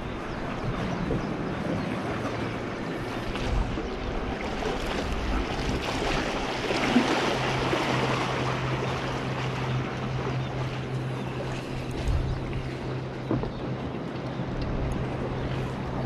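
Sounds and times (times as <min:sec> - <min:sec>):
sea noise: 0:00.0 - 0:16.0
steady low engine hum: 0:00.0 - 0:16.0
wind: 0:00.0 - 0:16.0.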